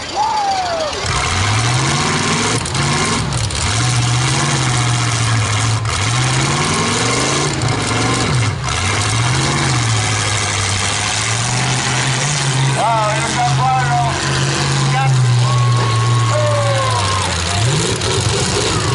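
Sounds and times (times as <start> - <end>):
truck engines revving: 0.0 - 18.9.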